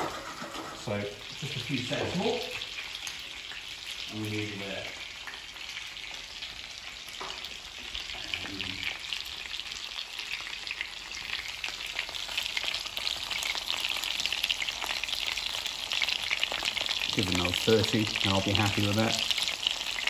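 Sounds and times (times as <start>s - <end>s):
chicken sizzling in frying pan: 0.0s - 20.0s.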